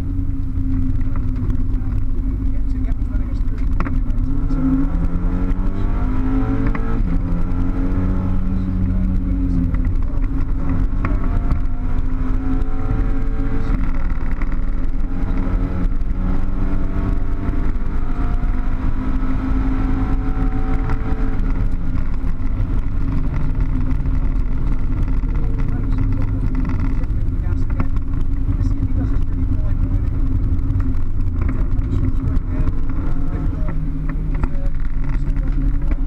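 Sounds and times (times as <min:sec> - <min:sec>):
car engine revving: 0:00.0 - 0:36.0
road and wind noise: 0:00.0 - 0:36.0.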